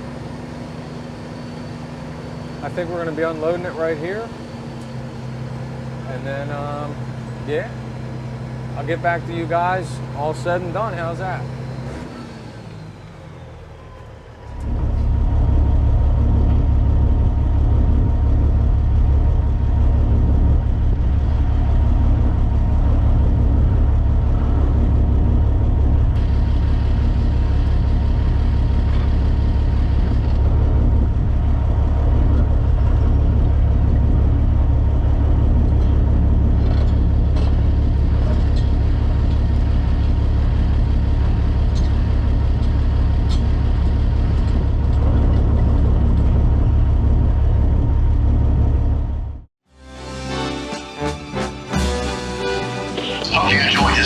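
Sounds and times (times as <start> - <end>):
heavy diesel engine idling: 0.0 - 49.5, 52.8 - 54.0.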